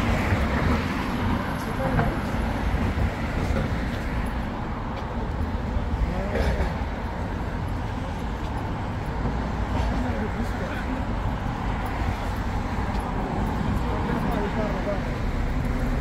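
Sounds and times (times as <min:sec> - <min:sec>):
faint voices of passers-by: 0:00.0 - 0:16.0
traffic rumble: 0:00.0 - 0:16.0.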